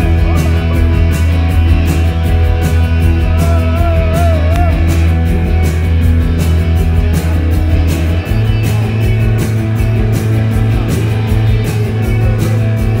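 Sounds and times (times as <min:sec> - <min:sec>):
bass guitar: 0:00.0 - 0:13.0
drums with cymbal hits: 0:00.0 - 0:13.0
electric guitar: 0:00.0 - 0:13.0.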